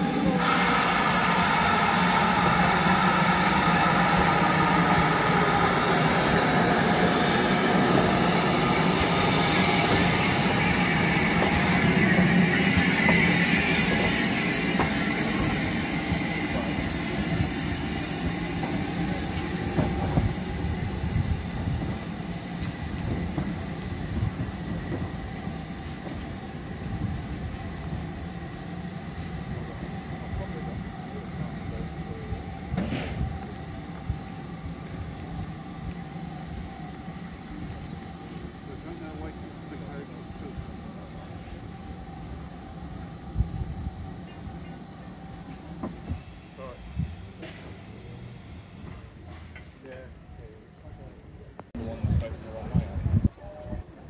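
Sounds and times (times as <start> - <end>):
steam locomotive passing: 0.0 - 54.0.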